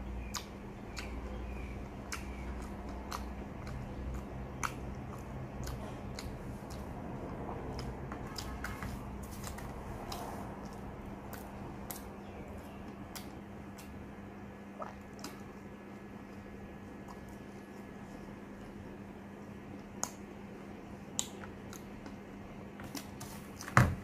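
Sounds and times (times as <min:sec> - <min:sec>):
wet squishy chewing: 0:00.1 - 0:20.3.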